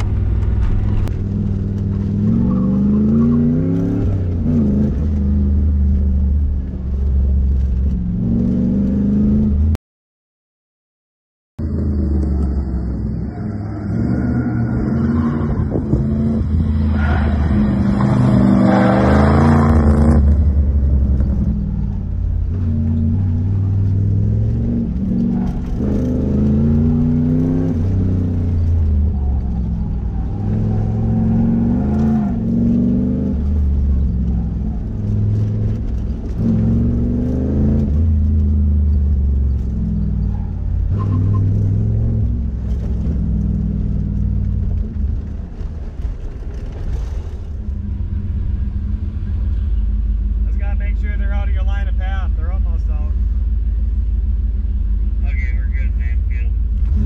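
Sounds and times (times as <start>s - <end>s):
car engine revving: 0.0s - 9.8s, 11.6s - 57.0s.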